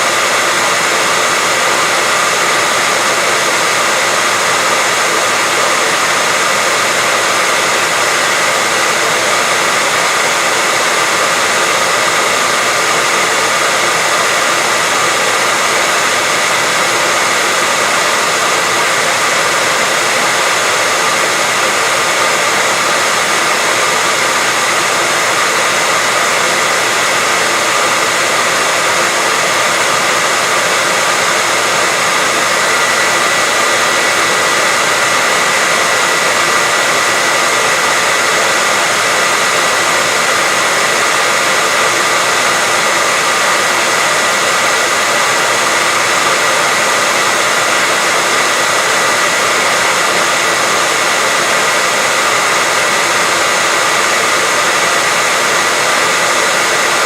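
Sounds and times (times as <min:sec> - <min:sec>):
loud white noise hiss: 0:00.0 - 0:57.0.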